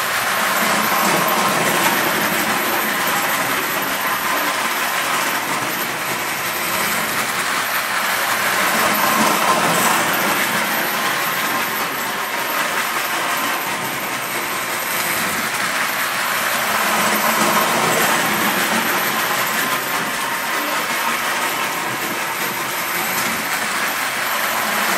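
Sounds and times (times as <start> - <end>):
toy train running on metal track: 0.0 - 24.9.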